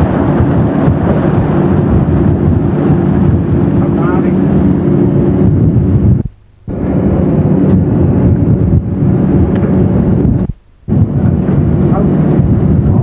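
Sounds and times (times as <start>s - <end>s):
boat engines rumbling: 0.0s - 13.0s
wind noise on microphone: 0.0s - 13.0s.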